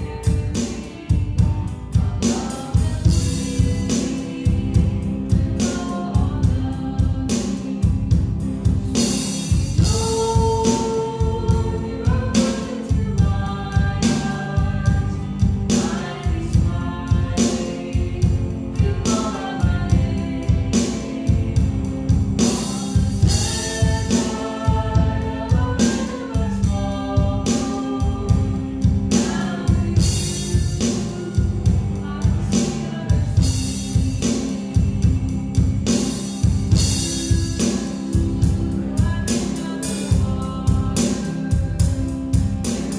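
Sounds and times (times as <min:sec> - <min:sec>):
drum kit beat: 0:00.0 - 0:42.9
guitar: 0:00.0 - 0:42.9
people singing: 0:00.0 - 0:42.9.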